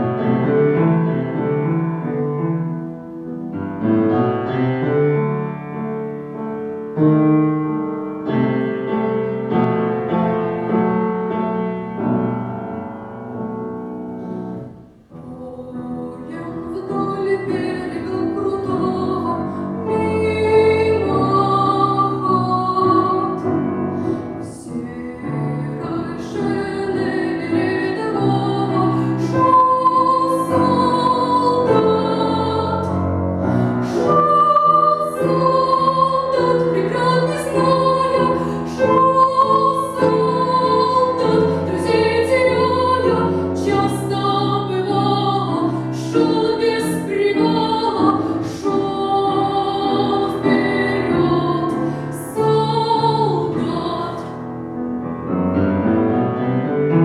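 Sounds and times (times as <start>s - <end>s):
woman singing classical style: 0.0s - 55.1s
piano chords: 0.0s - 57.0s.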